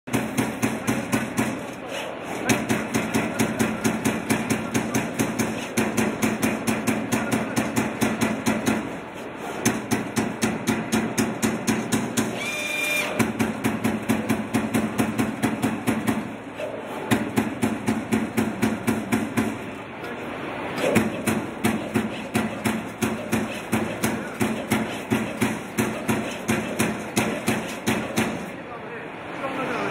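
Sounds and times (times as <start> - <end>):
punch press striking sheet steel: 0.1 - 19.8, 20.8 - 28.6.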